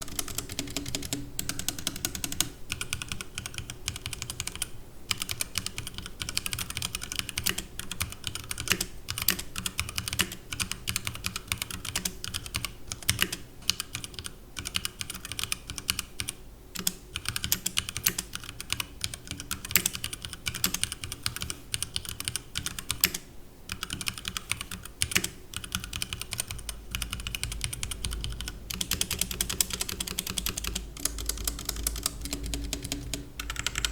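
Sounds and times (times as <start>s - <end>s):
fast mechanical keyboard typing: 0.0s - 33.9s.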